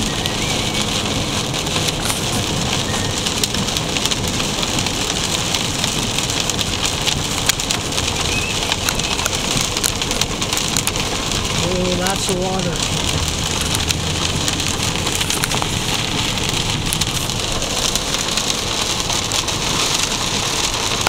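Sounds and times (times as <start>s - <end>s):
heavy rain on a car roof: 0.0s - 21.0s.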